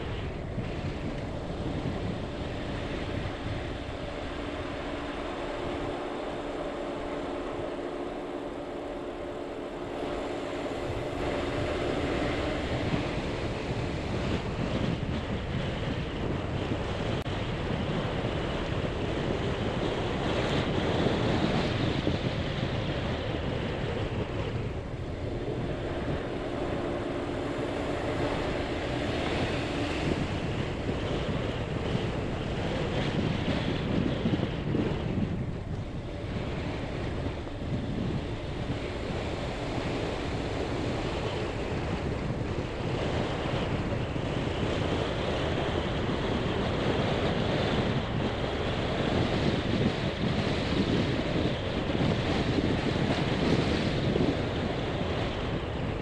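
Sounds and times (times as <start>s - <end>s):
gusty wind rushing around vehicle: 0.0s - 56.0s
vehicle engine hum: 0.0s - 56.0s.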